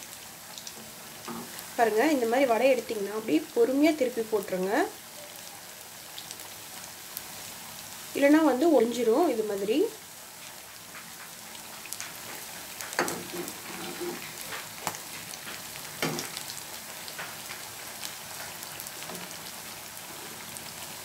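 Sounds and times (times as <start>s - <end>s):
food sizzling and popping in oil: 0.0s - 21.0s.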